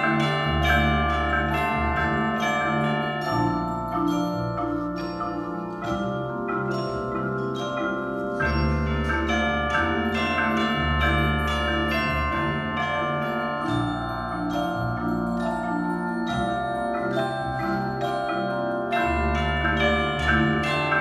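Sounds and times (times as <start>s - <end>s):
marimba ensemble playing: 0.0s - 21.0s.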